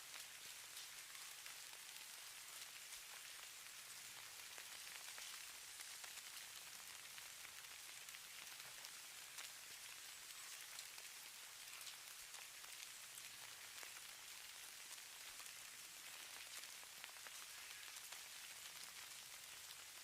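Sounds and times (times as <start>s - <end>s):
fine precipitation pattering: 0.0s - 20.0s
tiny scattered ticks: 0.1s - 20.0s.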